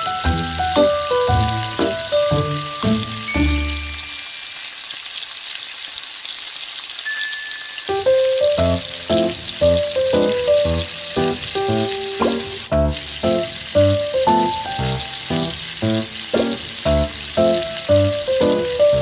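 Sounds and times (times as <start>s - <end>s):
plucked background music: 0.0s - 4.3s, 7.9s - 19.0s
garlic sizzling in hot oil: 0.0s - 19.0s.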